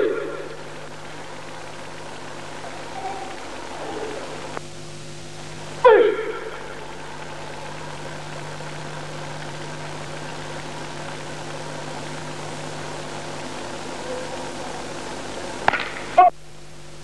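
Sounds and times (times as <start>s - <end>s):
constant low hum: 0.0s - 17.0s
film soundtrack hiss: 0.0s - 17.0s.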